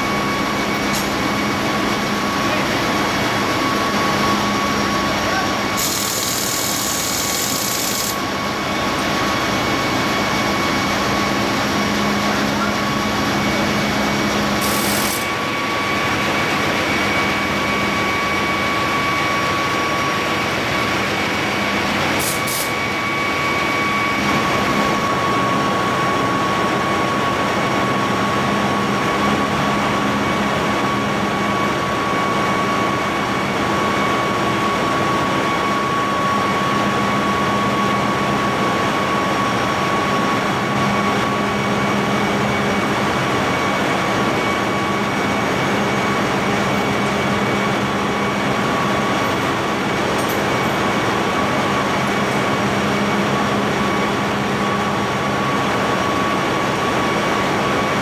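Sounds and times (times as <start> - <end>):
engine-room machinery humming: 0.0 - 58.0.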